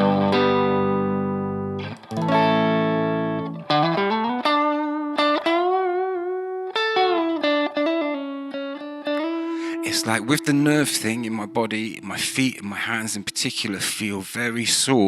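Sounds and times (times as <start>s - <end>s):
electric guitar playing: 0.0s - 13.8s.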